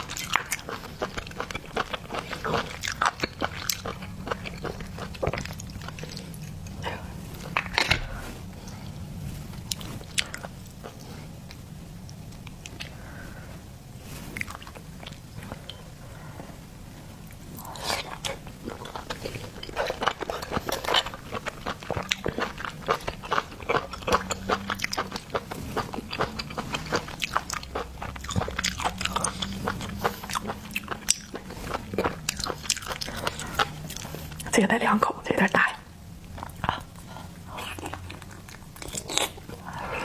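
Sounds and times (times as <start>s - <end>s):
chewing crunchy seafood: 0.0s - 13.2s, 17.3s - 34.6s, 36.1s - 40.0s.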